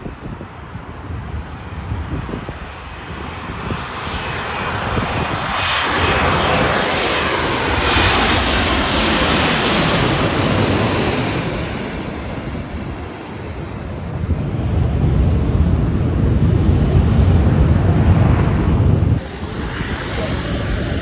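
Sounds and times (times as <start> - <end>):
airliner engines roaring: 0.0 - 21.0
wind rumble on microphone: 0.0 - 21.0.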